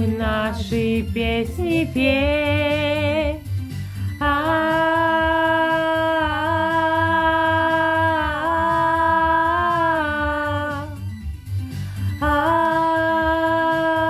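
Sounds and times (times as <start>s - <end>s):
backing track with low beat: 0.0s - 14.0s.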